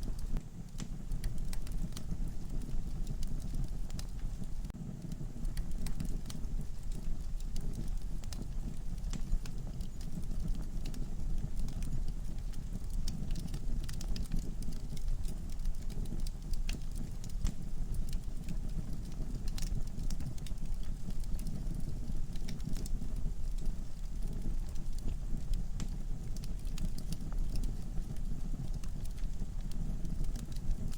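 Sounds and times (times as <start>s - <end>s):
burning wood crackling and popping: 0.0s - 30.9s
low rumble of flames: 0.0s - 30.9s.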